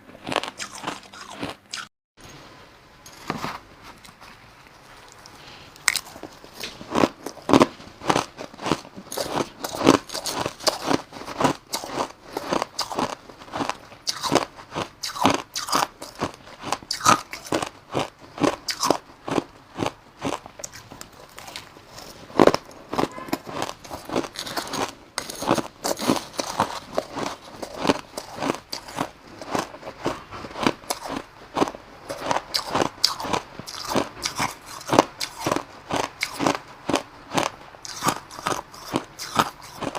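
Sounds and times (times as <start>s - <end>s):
chewing crushed ice: 0.0s - 1.9s, 3.1s - 39.9s.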